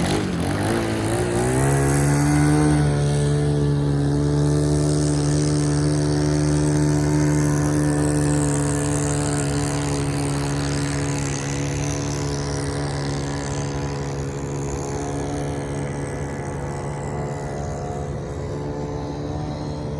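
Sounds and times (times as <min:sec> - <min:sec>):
small boat engine running: 0:00.0 - 0:19.9.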